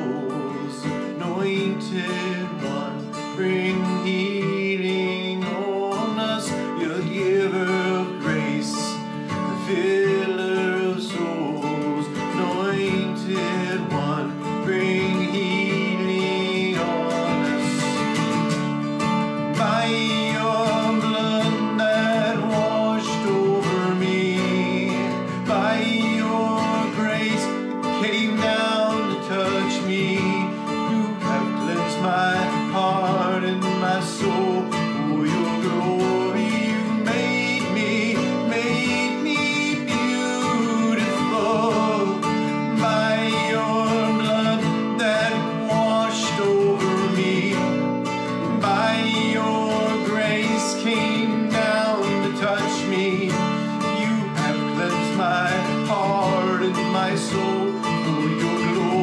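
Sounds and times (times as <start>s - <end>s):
acoustic guitar: 0.0s - 59.0s
man singing: 0.0s - 59.0s.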